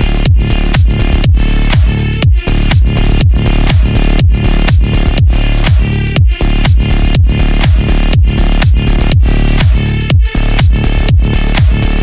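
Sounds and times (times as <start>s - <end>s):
electronic dance music: 0.0s - 12.0s
heavy kick drum: 0.0s - 12.0s.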